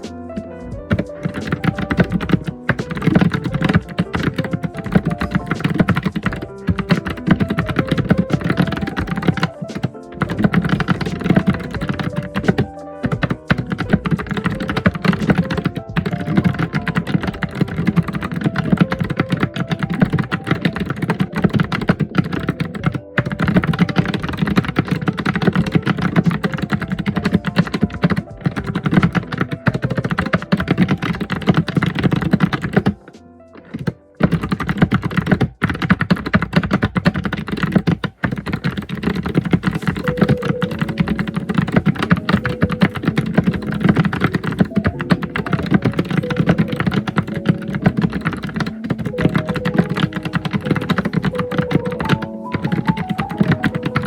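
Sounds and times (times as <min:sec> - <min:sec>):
soft melody: 0:00.0 - 0:54.0
fast typing on keyboard: 0:00.7 - 0:54.0.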